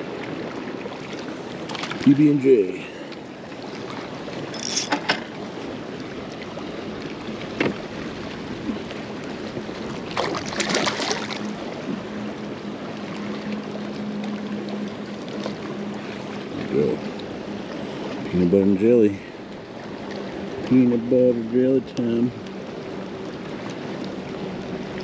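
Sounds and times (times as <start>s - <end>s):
water lapping against kayak: 0.0s - 25.0s.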